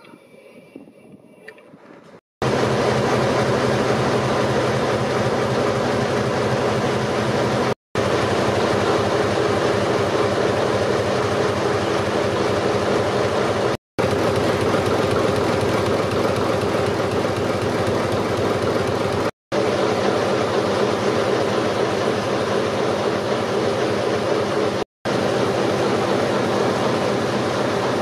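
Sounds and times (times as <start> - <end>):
stationary engines clattering: 2.4 - 28.0.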